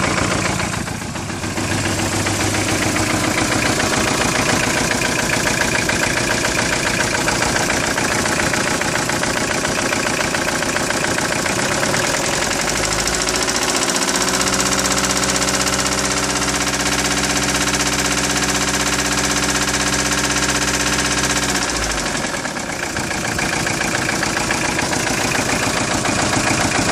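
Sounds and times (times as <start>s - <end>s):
engine running with rhythmic knocking: 0.0s - 26.9s.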